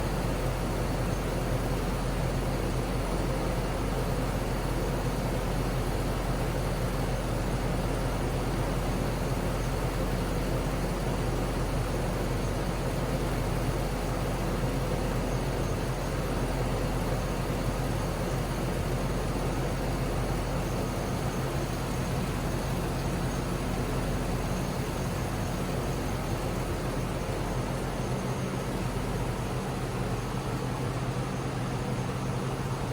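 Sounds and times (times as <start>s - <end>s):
car engine running steadily: 0.0s - 32.9s.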